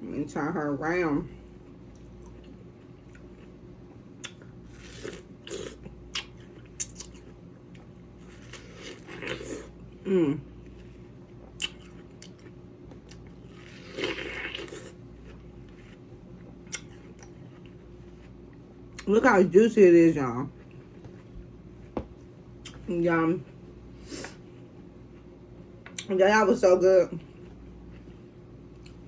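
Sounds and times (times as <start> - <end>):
person chewing watermelon: 1.5 - 19.1, 20.5 - 26.1, 27.2 - 29.0.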